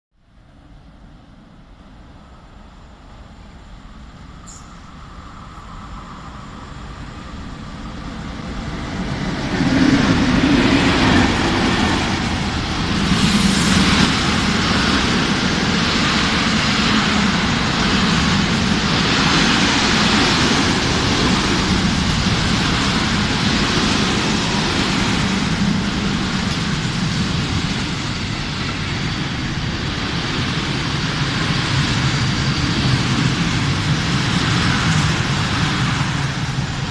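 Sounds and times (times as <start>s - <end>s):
electric locomotive passing: 0.3s - 36.9s
train wheels rumbling on rails: 0.4s - 36.9s.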